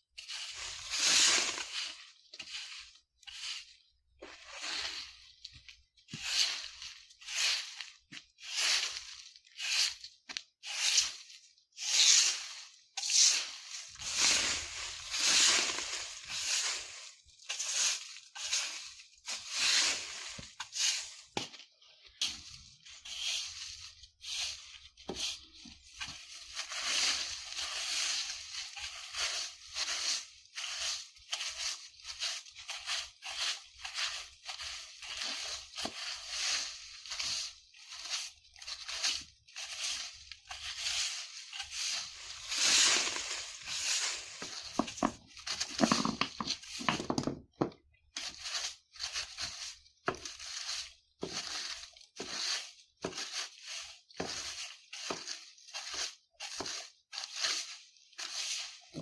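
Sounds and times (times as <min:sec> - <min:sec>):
broom sweeping dry leaves: 0:00.1 - 0:47.1, 0:48.1 - 0:59.0.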